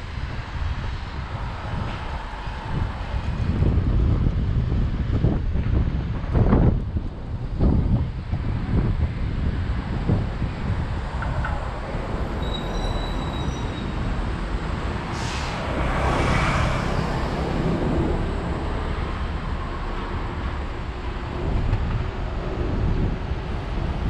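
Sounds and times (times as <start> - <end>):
low road and traffic rumble: 0.0 - 24.0
wind rushing over microphone: 0.0 - 24.0.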